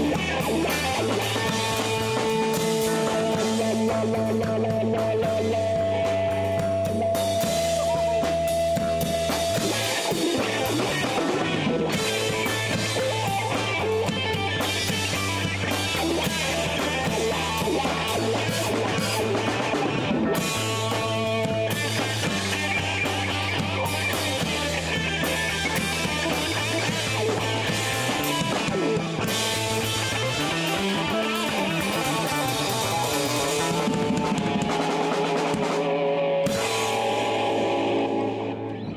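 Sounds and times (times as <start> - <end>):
low bass notes: 0.0 - 38.9
rock band playing: 0.0 - 38.9.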